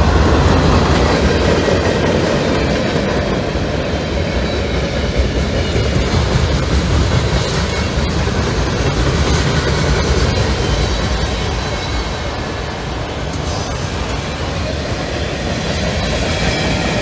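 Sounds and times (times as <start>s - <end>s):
freight cars rumbling on rail: 0.0s - 17.0s.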